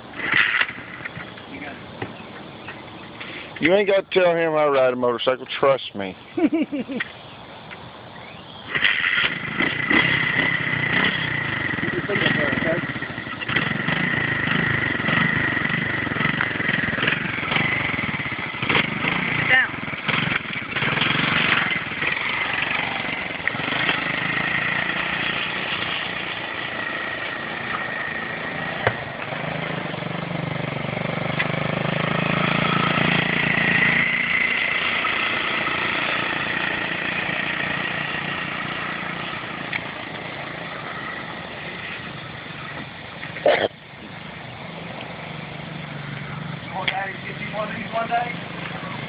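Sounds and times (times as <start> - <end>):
dirt bike engine: 0.0 - 49.0.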